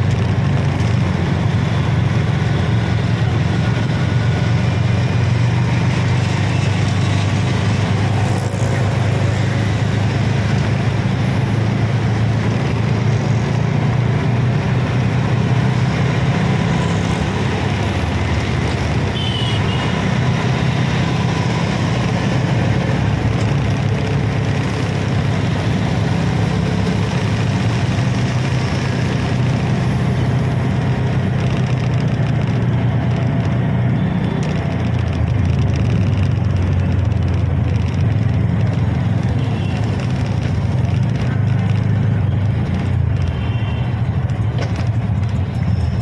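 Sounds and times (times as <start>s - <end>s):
road noise: 0.0s - 46.0s.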